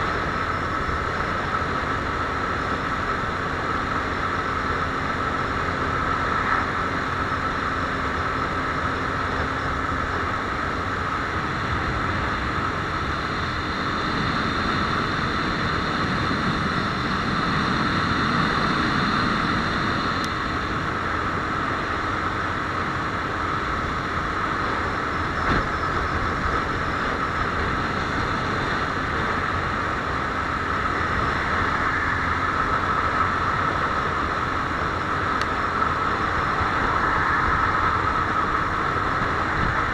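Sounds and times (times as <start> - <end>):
motorcycle engine running: 0.0 - 36.9
constant rushing noise: 0.0 - 39.9.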